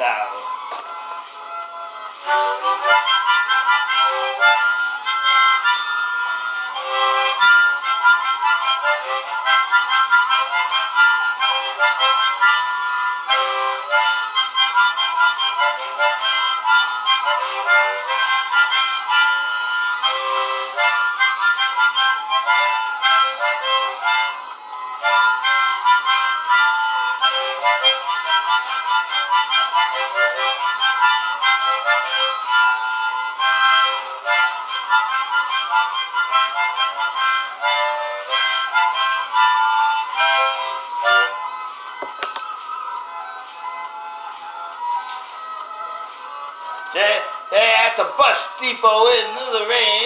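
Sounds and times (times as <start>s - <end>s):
harmonica playing: 0.0s - 50.0s.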